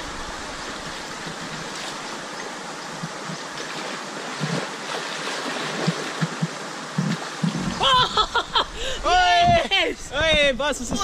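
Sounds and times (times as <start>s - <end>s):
water splashes: 0.0s - 9.5s
creek water flowing: 0.0s - 11.0s.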